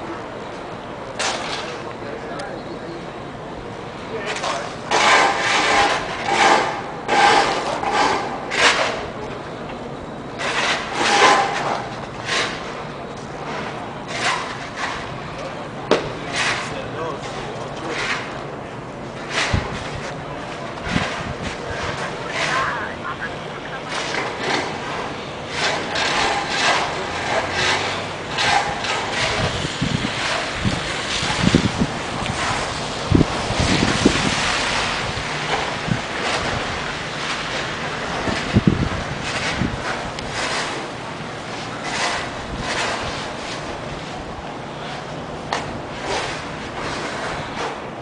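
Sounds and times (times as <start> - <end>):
rough scraping strokes: 4.2 - 9.2, 10.4 - 12.8, 13.4 - 15.2, 16.2 - 22.9, 23.8 - 48.0.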